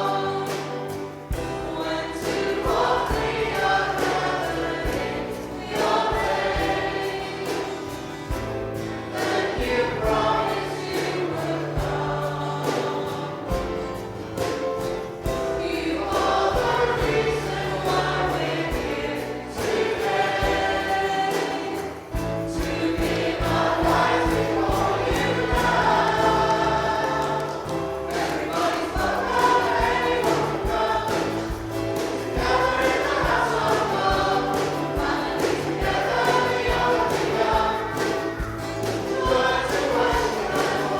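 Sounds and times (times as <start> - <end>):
group singing worship song: 0.0 - 40.9
instrumental accompaniment with beat: 0.0 - 40.9.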